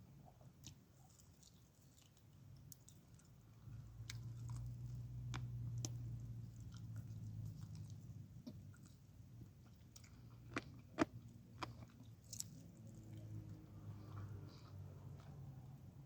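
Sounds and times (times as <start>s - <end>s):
person chewing food: 0.2s - 15.7s.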